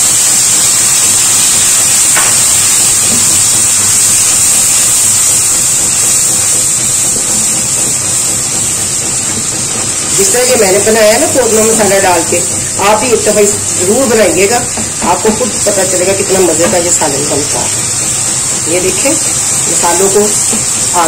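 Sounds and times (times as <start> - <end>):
spices sizzling in hot oil: 0.0 - 21.0.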